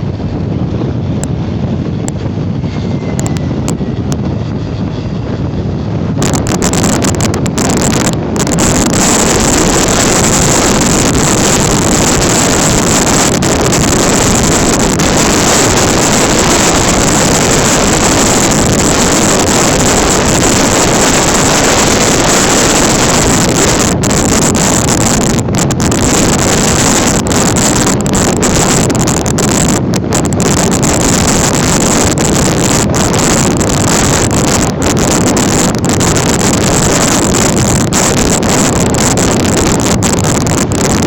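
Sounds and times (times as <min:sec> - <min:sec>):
vehicle engine noise: 0:00.0 - 0:41.0
wind buffeting microphone: 0:00.0 - 0:41.0.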